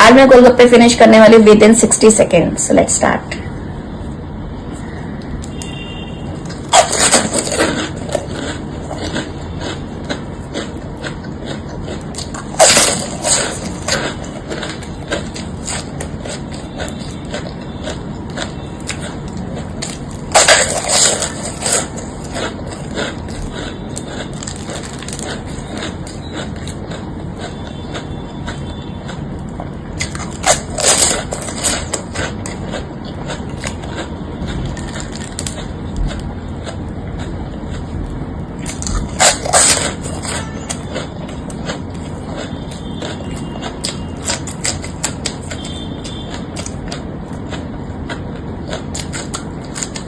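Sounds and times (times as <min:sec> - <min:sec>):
crunchy shells being chewed: 0:04.7 - 0:50.0.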